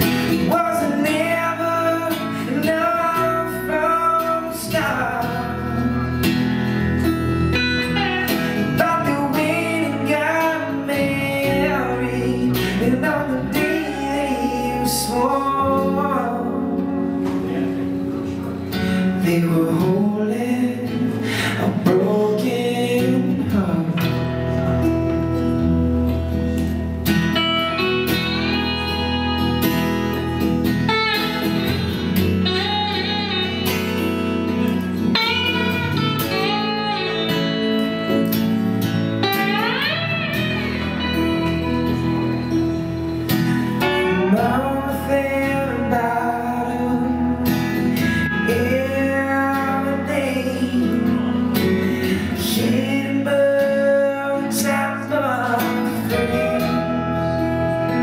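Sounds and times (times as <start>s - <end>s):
acoustic guitar strumming: 0.0s - 58.0s
electric guitar lead line: 0.0s - 58.0s.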